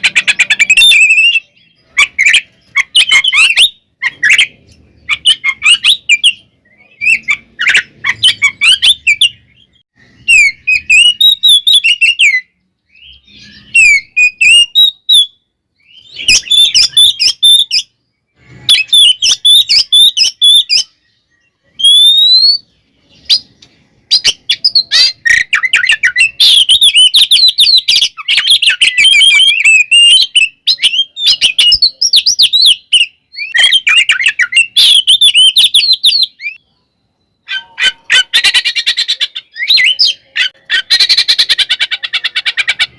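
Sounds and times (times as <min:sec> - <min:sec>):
bird singing whistles and chatter: 0:00.0 - 0:42.9.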